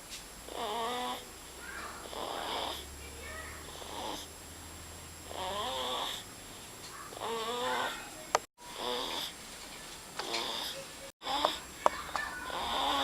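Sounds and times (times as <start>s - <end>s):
baby snoring: 0.5s - 9.4s, 10.2s - 13.0s.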